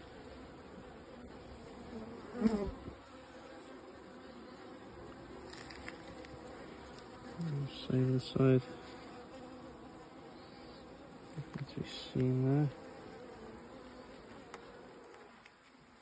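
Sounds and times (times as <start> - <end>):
bee buzzing past: 0.0 - 16.0
honeybees buzzing: 0.0 - 16.0.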